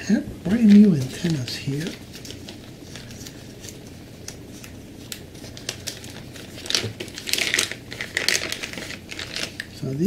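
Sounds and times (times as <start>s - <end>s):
plastic packaging crinkling: 0.5s - 10.0s.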